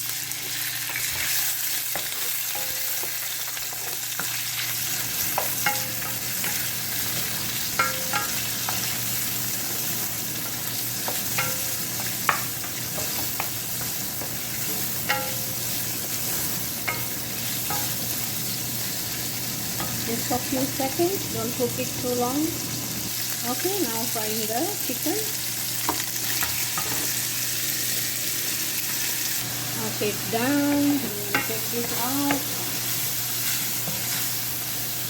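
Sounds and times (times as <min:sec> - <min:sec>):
shrimp sizzling in hot oil: 0:00.0 - 0:35.0.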